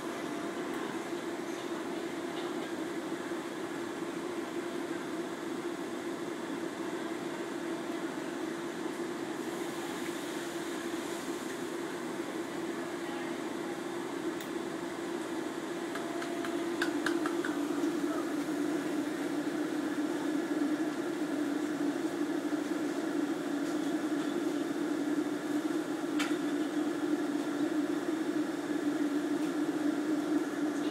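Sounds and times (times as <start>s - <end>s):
mechanical hum: 0.0s - 30.9s.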